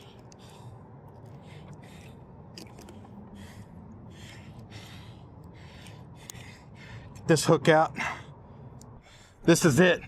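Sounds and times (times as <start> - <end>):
man breathing hard: 0.0 - 7.3, 7.9 - 9.5.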